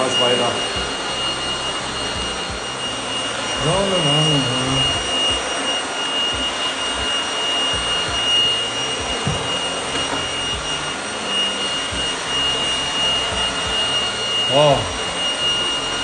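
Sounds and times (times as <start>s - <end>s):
vacuum motor hum with whine: 0.0s - 16.0s.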